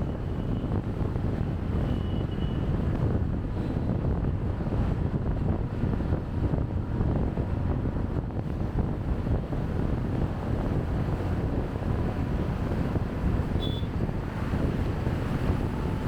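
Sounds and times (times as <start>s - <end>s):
traffic noise: 0.0s - 16.0s
wind buffeting microphone: 0.0s - 16.0s.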